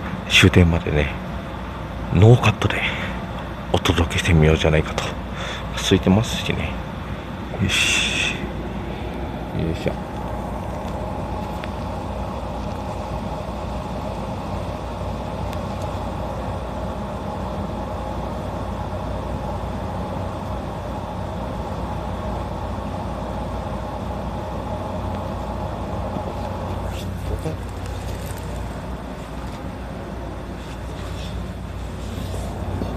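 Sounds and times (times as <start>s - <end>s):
electric train equipment humming: 0.0s - 32.9s.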